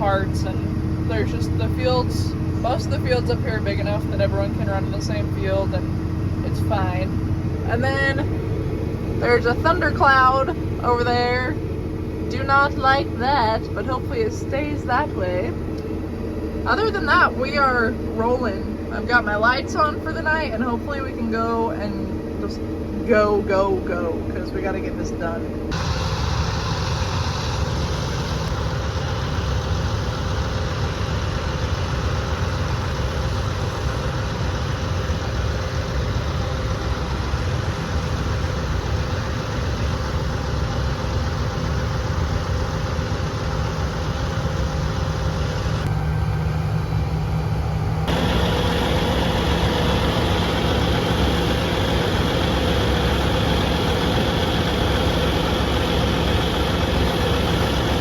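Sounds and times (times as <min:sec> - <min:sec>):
machinery engine humming: 0:00.0 - 0:58.0.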